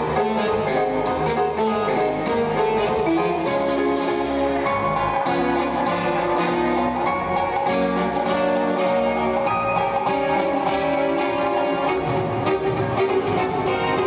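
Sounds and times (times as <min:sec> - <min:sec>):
instrumental dance music: 0:00.0 - 0:14.0.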